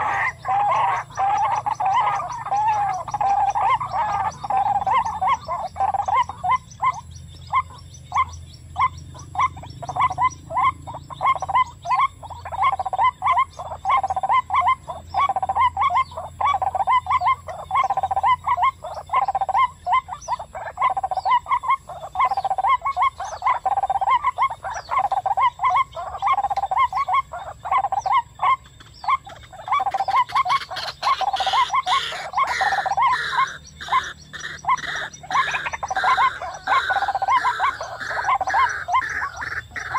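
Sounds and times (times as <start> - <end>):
bird croaking calls: 0.0 - 39.9.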